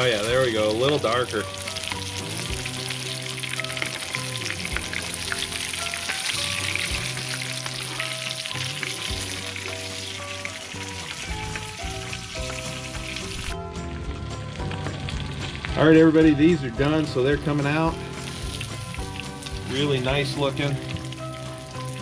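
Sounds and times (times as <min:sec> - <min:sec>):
fish sizzling in hot oil: 0:00.0 - 0:22.0
soft background music: 0:00.0 - 0:22.0.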